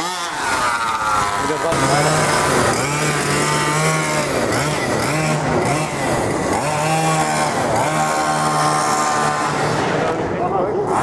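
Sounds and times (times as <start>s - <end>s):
small two-stroke engine: 0.0s - 11.0s.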